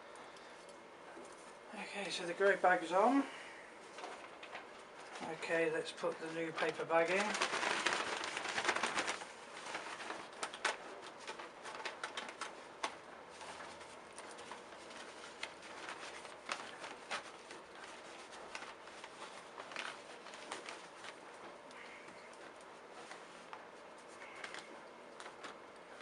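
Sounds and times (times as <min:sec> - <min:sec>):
paper rustling: 0:03.9 - 0:26.0.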